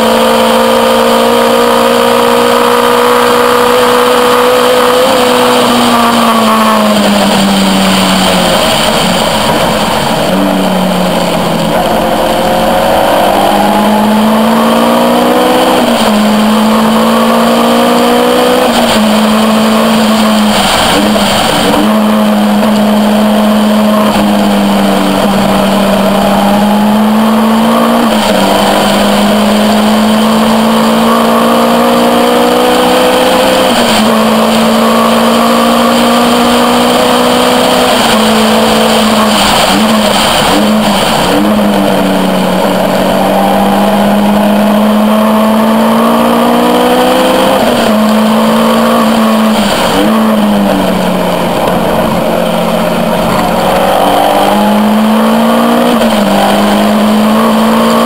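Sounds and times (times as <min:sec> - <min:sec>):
race car engine: 0:00.0 - 0:58.0
wind rush: 0:04.8 - 0:31.6, 0:32.3 - 0:58.0.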